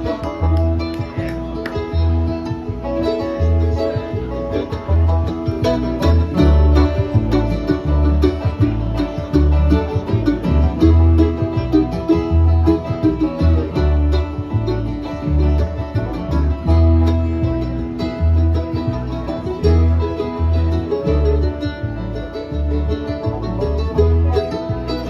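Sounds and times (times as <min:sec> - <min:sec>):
bluegrass string band: 0:00.0 - 0:25.0.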